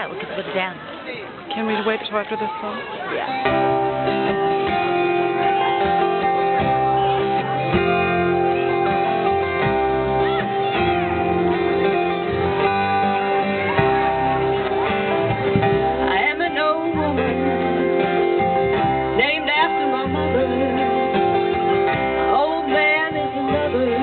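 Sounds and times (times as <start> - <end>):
strummed acoustic guitar: 3.1 - 24.0
bass guitar playing low notes: 3.2 - 24.0.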